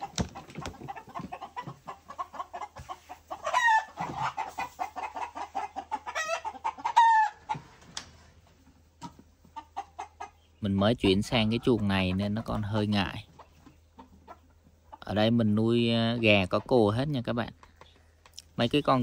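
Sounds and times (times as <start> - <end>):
chickens clucking: 0.0 - 19.0
drawn-out chicken calls: 0.0 - 19.0.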